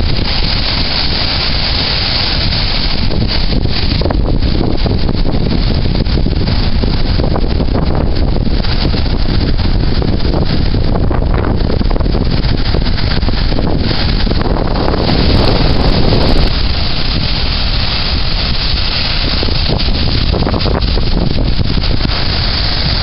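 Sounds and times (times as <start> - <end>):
storm surf rumbling: 0.0 - 23.0
wind buffeting microphone: 0.0 - 23.0.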